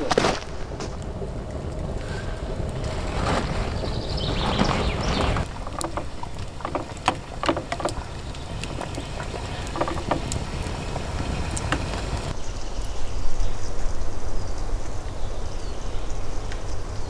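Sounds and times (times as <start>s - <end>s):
campfire hissing and crackling: 0.0s - 17.0s
wind rumble on microphone: 0.0s - 17.0s.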